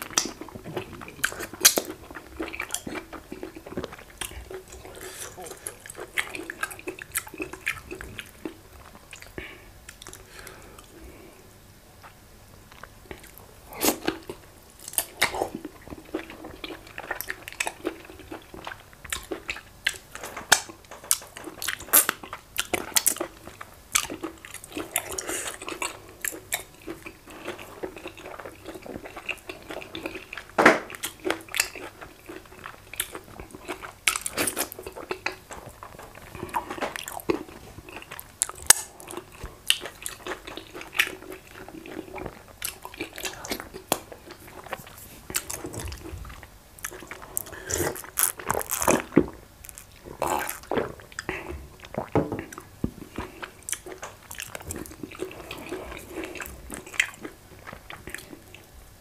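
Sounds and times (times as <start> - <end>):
wet chewing and lip smacking: 0.0 - 10.9, 12.0 - 58.7.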